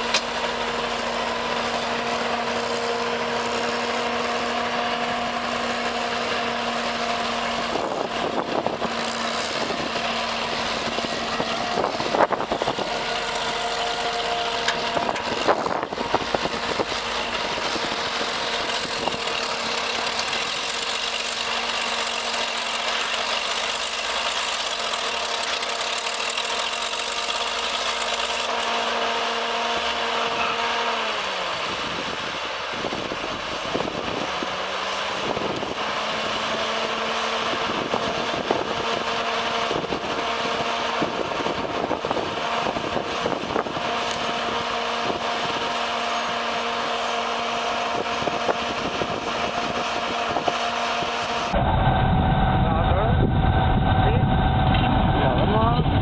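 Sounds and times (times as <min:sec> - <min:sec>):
heavy machine engine running: 0:00.0 - 0:56.0.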